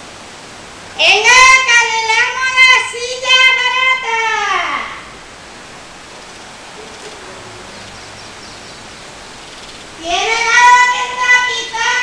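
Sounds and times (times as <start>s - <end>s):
faint street background: 0.0s - 12.0s.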